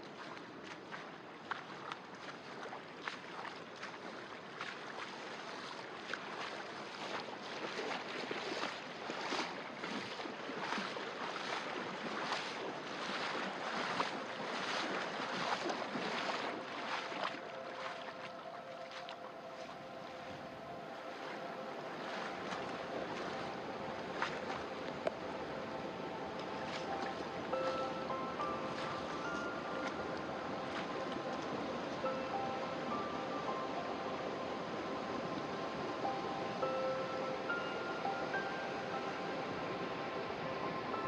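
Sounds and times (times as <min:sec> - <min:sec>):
creek water running: 0:00.0 - 0:41.0.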